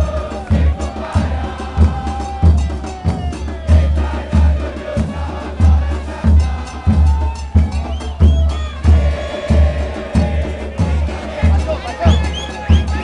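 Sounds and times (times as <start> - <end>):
bass drum beat: 0.0 - 13.0
football crowd chanting: 0.0 - 13.0.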